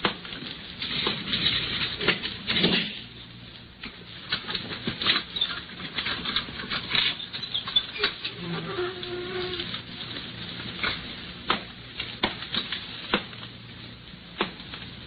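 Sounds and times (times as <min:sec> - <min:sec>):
rustling: 0:00.2 - 0:15.0.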